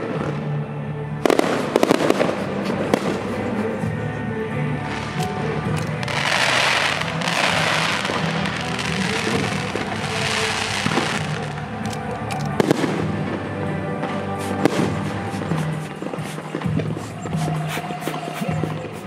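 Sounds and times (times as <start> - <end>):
fireworks crackle and hiss: 1.2 - 3.9, 4.8 - 12.0, 12.6 - 19.0
fireworks sharp bangs: 1.2 - 4.0, 4.8 - 11.7, 12.6 - 19.0.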